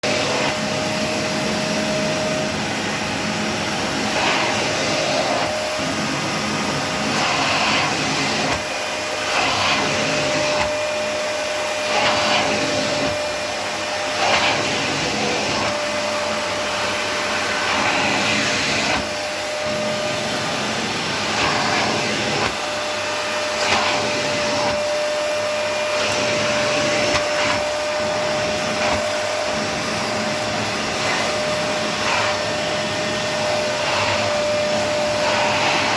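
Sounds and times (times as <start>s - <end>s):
vacuum cleaner running: 0.0s - 35.9s.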